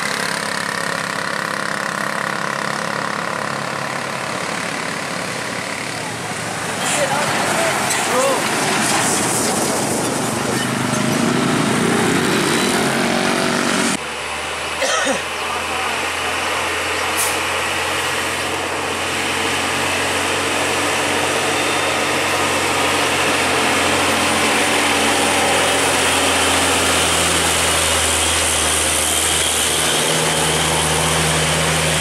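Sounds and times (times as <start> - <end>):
truck diesel engine drone: 0.0 - 32.0.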